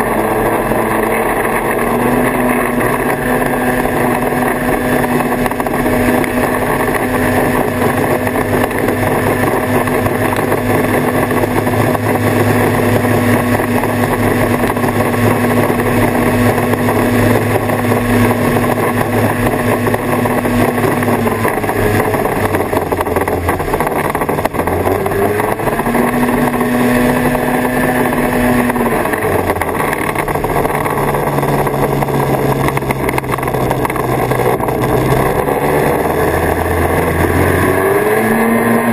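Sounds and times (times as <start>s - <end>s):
snowmobile engine running: 0.0s - 38.9s
snowmobile track noise: 0.0s - 38.9s.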